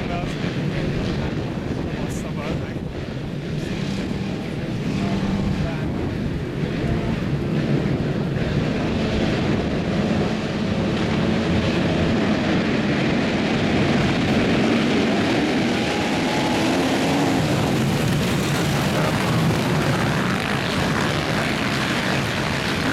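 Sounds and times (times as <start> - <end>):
motocross bikes revving and racing: 3.4 - 22.9.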